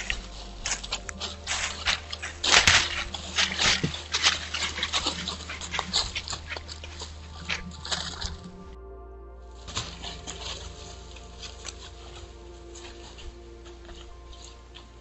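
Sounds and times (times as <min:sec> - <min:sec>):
hooves crunching dry leaves: 0:00.0 - 0:08.7, 0:09.5 - 0:15.0.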